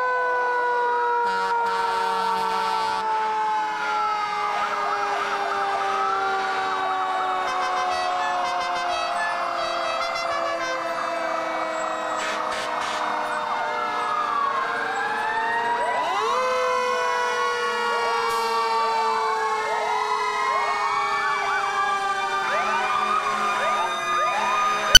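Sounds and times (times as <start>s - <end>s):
fire engine sirens wailing: 0.0s - 25.0s.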